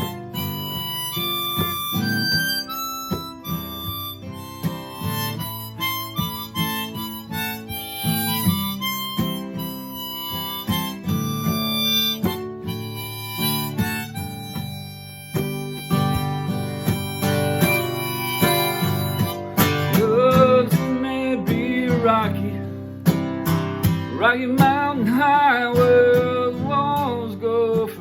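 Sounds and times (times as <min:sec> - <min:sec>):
harmonica melody: 0:00.0 - 0:28.0
strummed acoustic guitar: 0:00.0 - 0:28.0.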